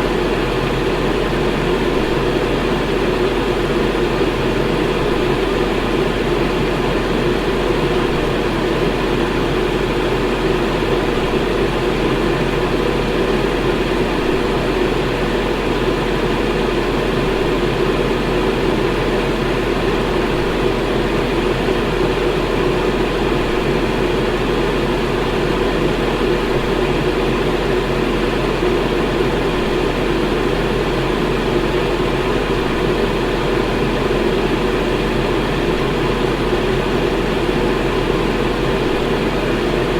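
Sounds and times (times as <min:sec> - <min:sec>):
electric fan whirring: 0:00.0 - 0:39.9.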